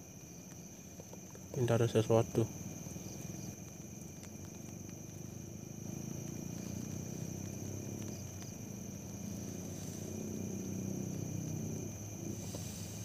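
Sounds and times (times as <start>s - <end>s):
insects calling: 0.0s - 13.0s.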